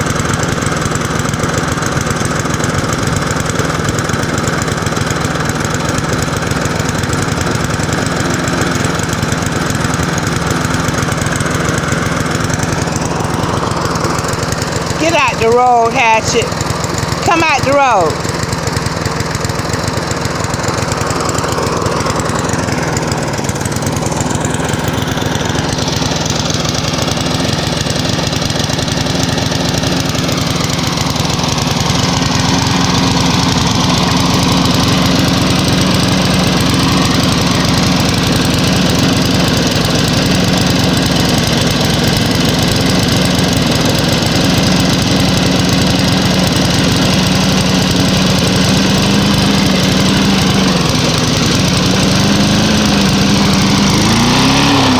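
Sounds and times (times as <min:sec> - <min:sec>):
small lawnmower engine running: 0:00.0 - 0:54.9.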